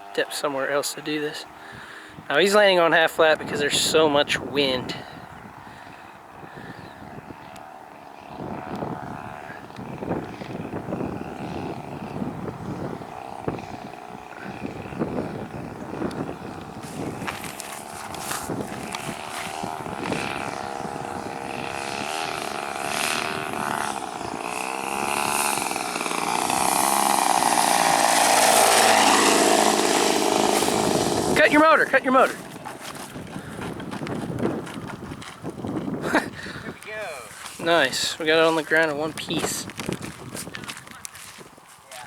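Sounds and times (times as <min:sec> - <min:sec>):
model airplane engine running: 0:00.9 - 0:42.0
wind buffeting microphone: 0:03.1 - 0:42.0.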